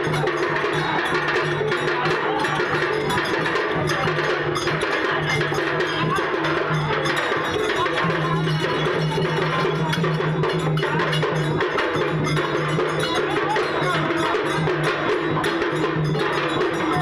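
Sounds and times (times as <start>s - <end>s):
clanging metallic percussion: 0.0s - 17.0s.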